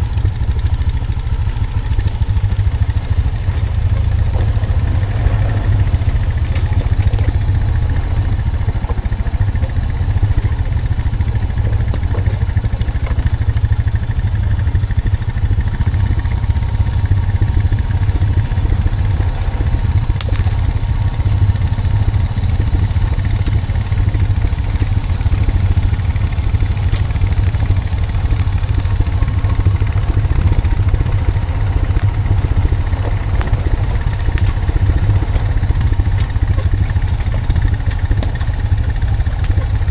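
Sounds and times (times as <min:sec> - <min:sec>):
atv engine running: 0:00.0 - 0:39.9
light clicks and clatter: 0:00.0 - 0:39.9.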